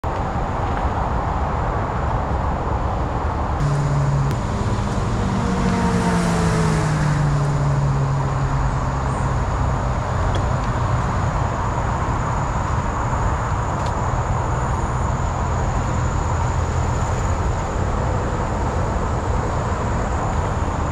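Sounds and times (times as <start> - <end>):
engine hum passing by: 3.6 - 20.9.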